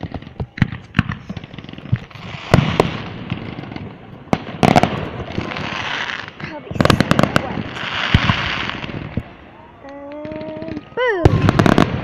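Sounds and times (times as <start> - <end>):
fireworks bangs and pops: 0.0 - 12.0
fireworks crackling hiss: 0.0 - 12.0.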